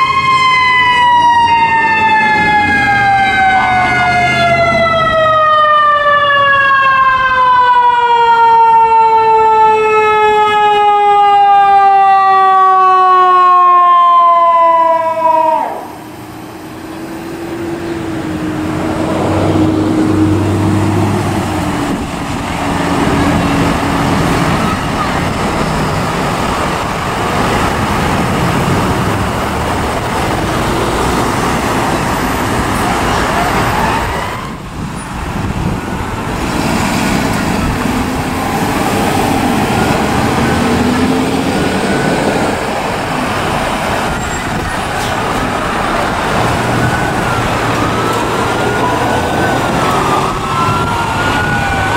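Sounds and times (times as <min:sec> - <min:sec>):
faint emergency siren wailing: 0:00.0 - 0:51.9
passing road traffic: 0:00.0 - 0:51.9.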